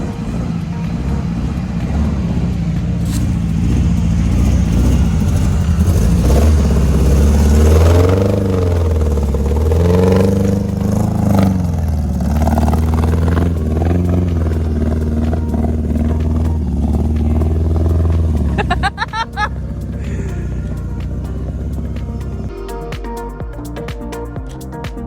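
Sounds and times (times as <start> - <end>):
vehicle engine revving: 0.0 - 22.9.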